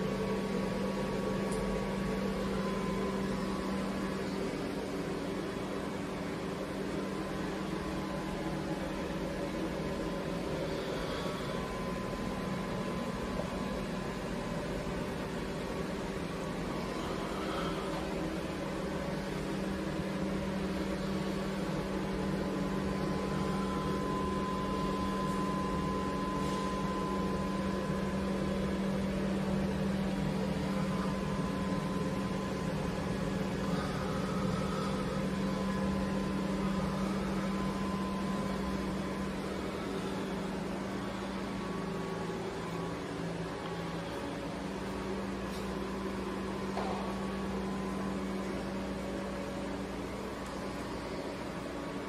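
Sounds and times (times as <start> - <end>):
machinery low drone: 0.0 - 52.0
thin high whine: 0.0 - 52.0.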